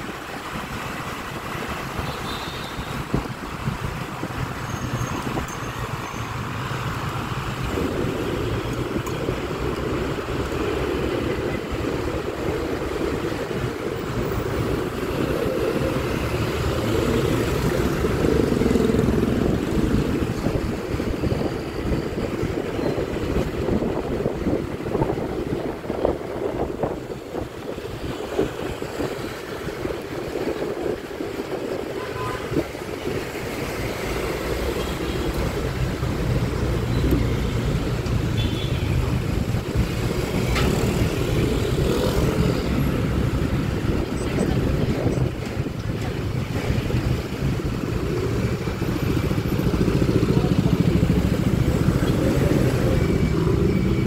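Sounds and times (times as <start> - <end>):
road and wind rush: 0.0 - 54.0.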